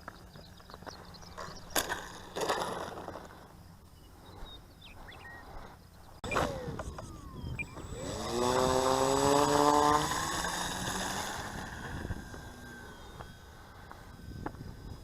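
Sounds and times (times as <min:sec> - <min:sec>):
model airplane motor buzzing: 0:00.1 - 0:15.0.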